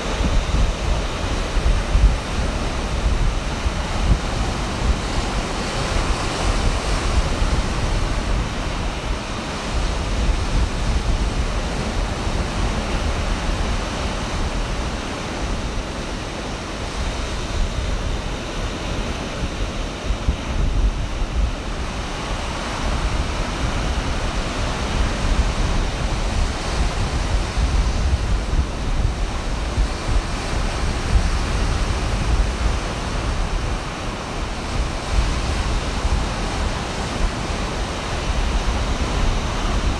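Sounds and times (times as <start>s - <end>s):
ocean waves breaking: 0.0s - 39.9s
wind buffeting microphone: 0.0s - 39.9s.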